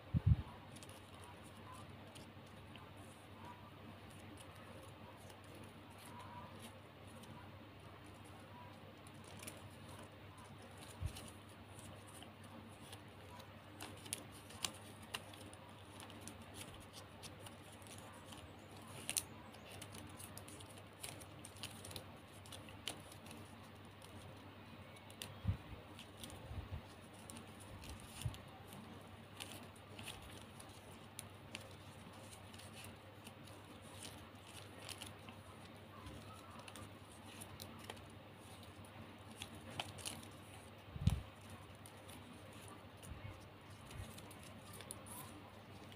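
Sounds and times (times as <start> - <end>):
faint low hum: 0.0 - 45.9
plastic ribbon crinkling: 0.6 - 45.9.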